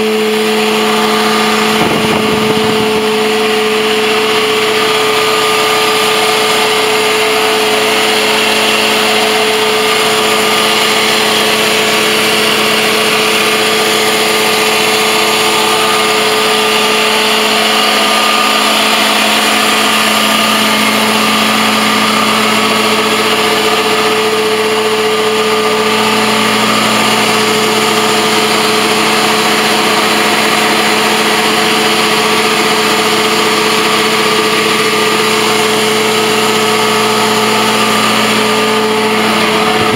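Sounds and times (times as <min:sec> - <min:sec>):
engine running with even hum: 0:00.0 - 0:39.9.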